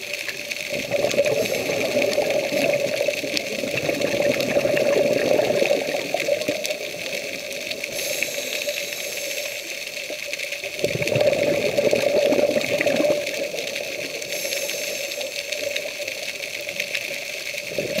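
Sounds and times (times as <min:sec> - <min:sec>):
muffled underwater rushing: 0:00.0 - 0:18.0
water rushing: 0:00.0 - 0:18.0.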